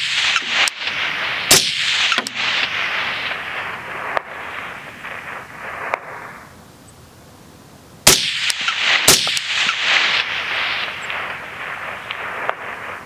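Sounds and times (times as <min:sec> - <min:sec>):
faint sharp cracks: 0:00.0 - 0:06.4, 0:08.1 - 0:13.0
rifle shot with rolling echo: 0:00.0 - 0:06.6, 0:08.0 - 0:13.0.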